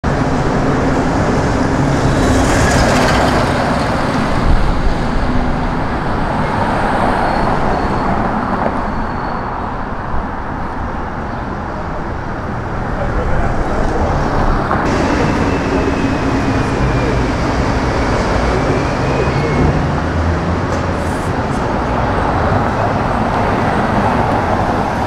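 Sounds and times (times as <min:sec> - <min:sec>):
city traffic passing: 0:00.0 - 0:25.0.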